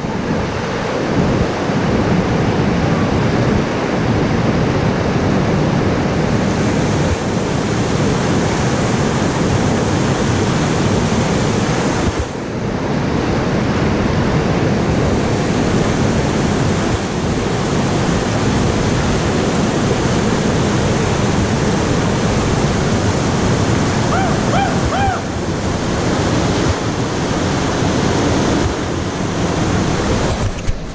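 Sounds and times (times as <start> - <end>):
river rapids rushing: 0.0 - 30.7.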